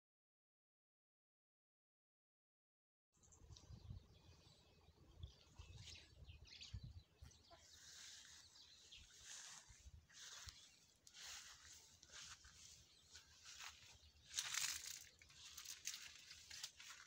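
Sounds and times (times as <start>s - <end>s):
birds chirping: 3.2s - 17.0s.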